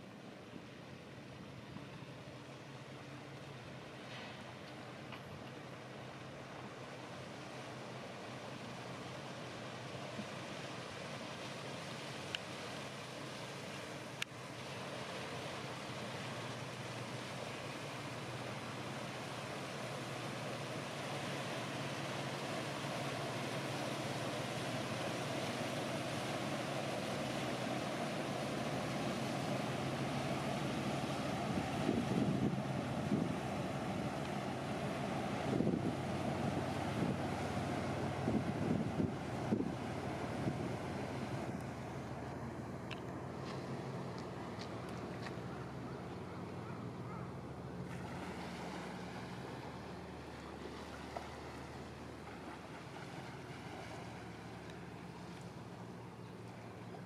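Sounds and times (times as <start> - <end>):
boat engines droning: 0.0 - 57.0
water rushing from wake: 0.0 - 57.0.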